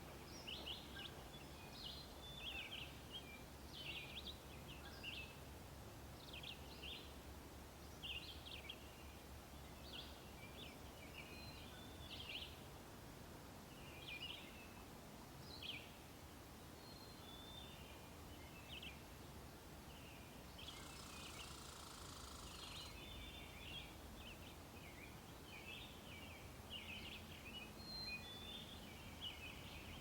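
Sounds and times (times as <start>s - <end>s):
songbirds singing: 0.0s - 12.8s, 13.6s - 30.0s.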